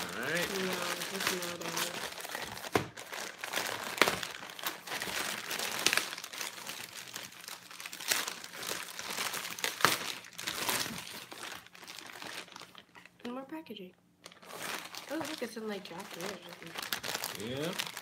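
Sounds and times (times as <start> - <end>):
packaging crinkling and rustling: 0.0 - 13.4, 14.2 - 18.0
sharp crackles of packaging: 0.0 - 13.4, 14.2 - 18.0.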